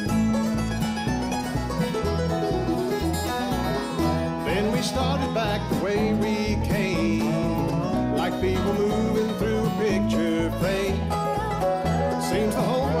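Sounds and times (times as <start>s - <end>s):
banjo: 0.0s - 13.0s
dobro sliding notes: 0.0s - 13.0s
guitar: 0.0s - 13.0s
picked mandolin: 0.0s - 13.0s
upright bass line: 0.0s - 13.0s.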